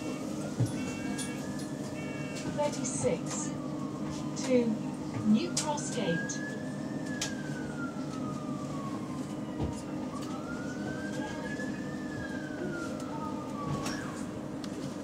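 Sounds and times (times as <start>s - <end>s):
siren wailing: 0.0s - 14.6s
bus engine hum: 0.0s - 15.0s.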